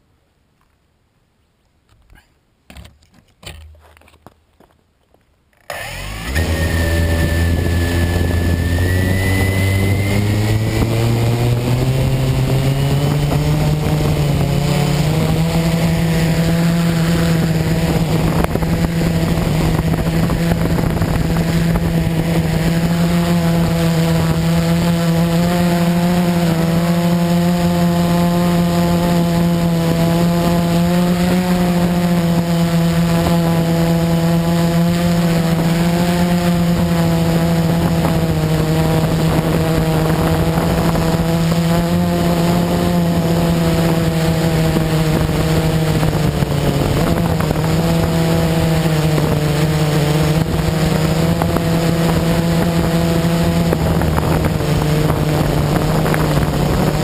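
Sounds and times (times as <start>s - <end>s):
quadcopter motors humming: 5.6s - 57.0s.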